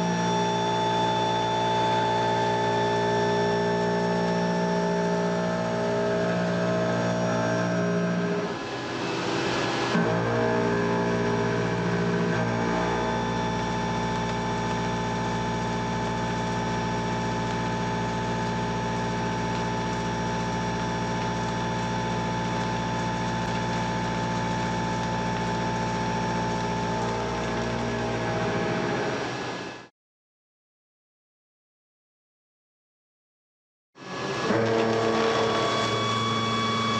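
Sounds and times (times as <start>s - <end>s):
milling machine cutting steel: 0.0s - 29.6s, 34.0s - 36.9s.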